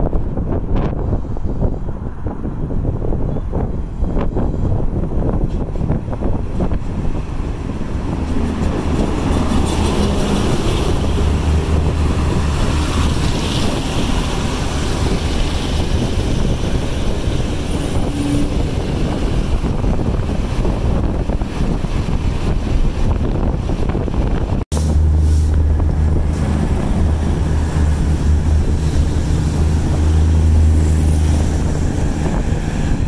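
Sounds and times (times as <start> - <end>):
diesel train rumbling: 0.0 - 33.0.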